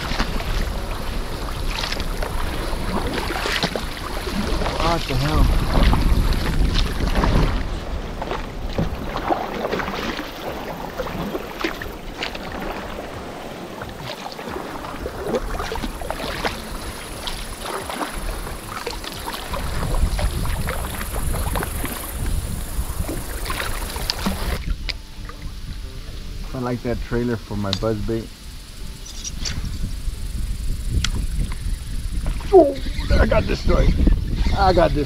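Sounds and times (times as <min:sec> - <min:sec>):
water splashing and sloshing: 0:00.0 - 0:35.0
wind rumble on microphone: 0:00.0 - 0:35.0.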